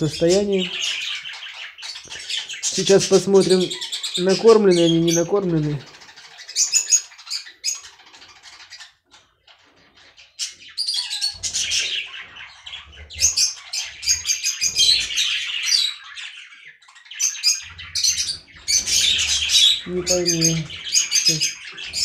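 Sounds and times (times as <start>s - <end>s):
budgerigars chirping: 0.0s - 22.0s.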